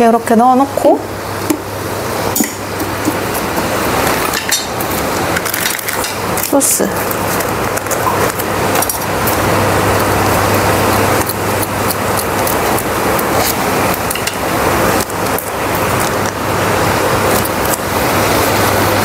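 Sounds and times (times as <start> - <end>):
low steady hum: 0.0 - 19.0
stir-fry sizzling in a pan: 1.1 - 19.0.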